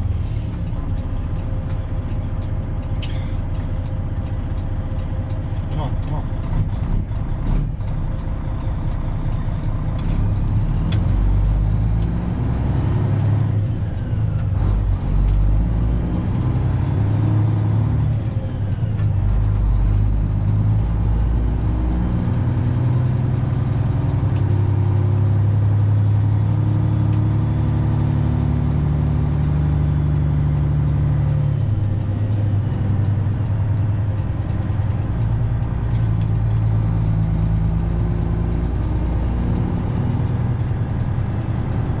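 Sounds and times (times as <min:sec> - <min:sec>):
truck engine shifting gears: 0:00.0 - 0:42.0.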